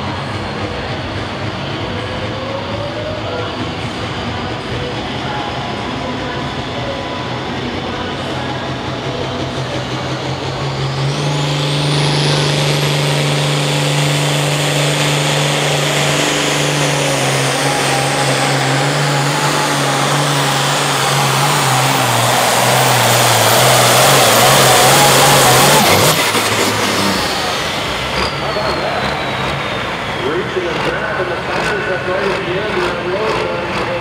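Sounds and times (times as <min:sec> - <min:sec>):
tractor engine drone: 0:00.0 - 0:34.0.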